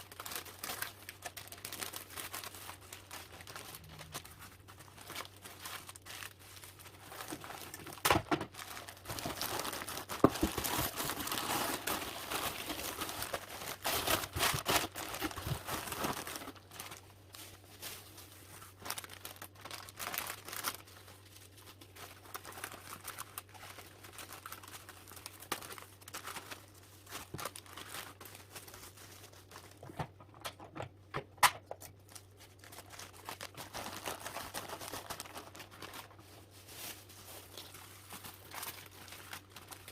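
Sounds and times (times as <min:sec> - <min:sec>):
packaging material crinkling: 0:00.0 - 0:39.9.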